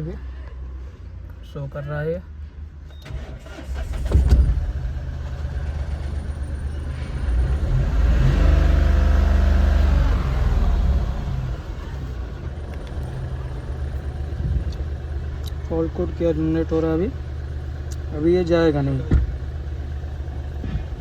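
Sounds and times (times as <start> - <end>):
diesel engine starting and idling: 2.9 - 21.0
diesel engine revving: 3.0 - 21.0.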